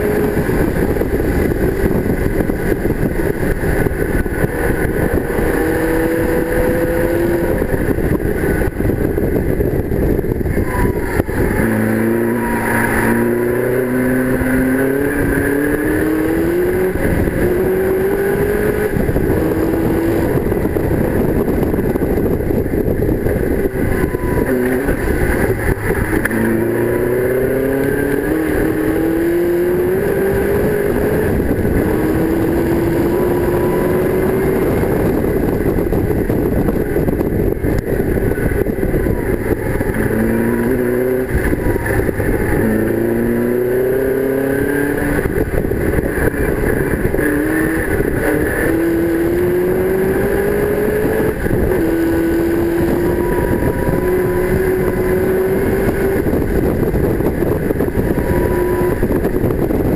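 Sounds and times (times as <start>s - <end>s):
race car engine accelerating: 0.0s - 59.9s
wind rush: 0.0s - 59.9s.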